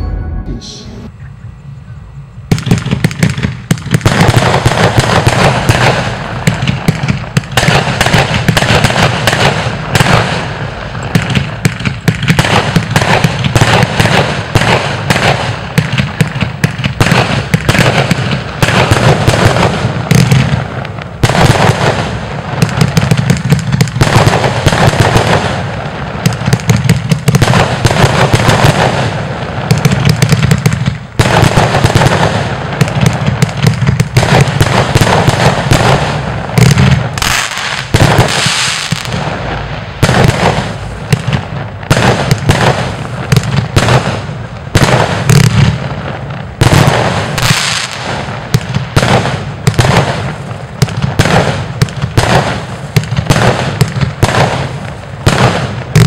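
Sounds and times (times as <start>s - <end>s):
fireworks launching and bursting: 2.5s - 56.0s.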